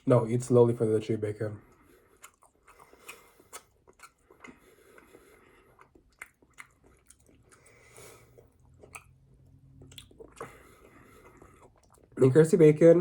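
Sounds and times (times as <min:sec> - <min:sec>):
chewing with mouth clicks: 0:01.6 - 0:12.2.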